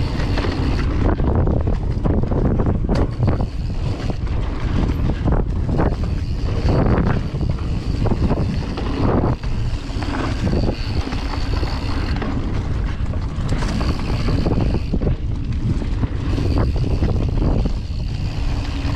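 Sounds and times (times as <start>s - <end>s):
bike bumps and knocks: 0.0s - 18.9s
tyres rolling on dirt: 0.0s - 18.9s
wind buffeting microphone: 0.0s - 18.9s.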